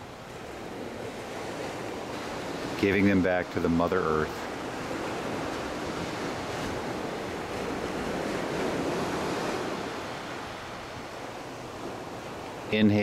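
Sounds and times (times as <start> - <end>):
small waves breaking on beach: 0.0 - 13.0
wind buffeting microphone: 0.0 - 13.0.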